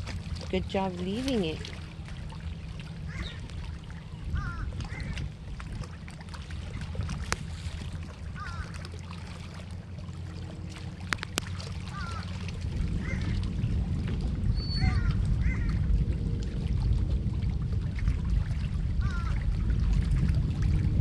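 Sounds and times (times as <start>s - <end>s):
low rumbling noise: 0.0s - 21.0s.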